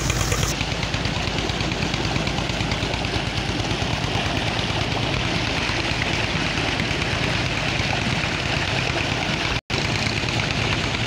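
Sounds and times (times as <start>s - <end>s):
pump drive droning: 0.0s - 11.0s.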